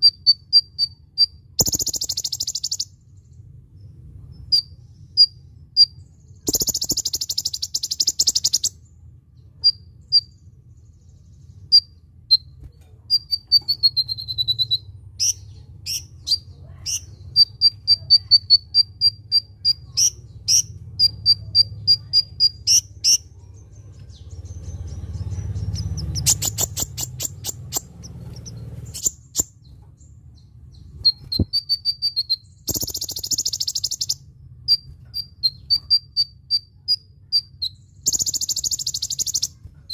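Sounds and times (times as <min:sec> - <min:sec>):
buzzy bird trills: 0:00.0 - 0:03.4, 0:04.4 - 0:08.9, 0:09.6 - 0:39.9
steady low hum: 0:00.0 - 0:39.9
sunbird chirping: 0:00.0 - 0:39.9.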